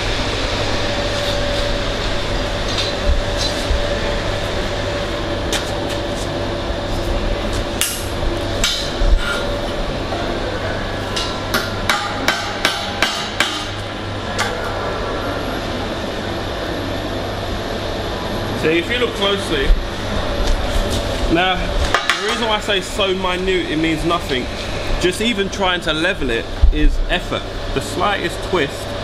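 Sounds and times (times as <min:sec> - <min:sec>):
workshop hum: 0:00.0 - 0:29.0.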